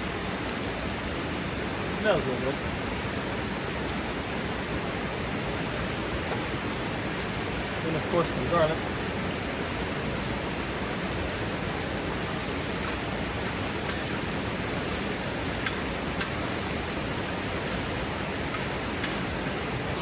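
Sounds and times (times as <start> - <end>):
food sizzling on a griddle: 0.0 - 20.0.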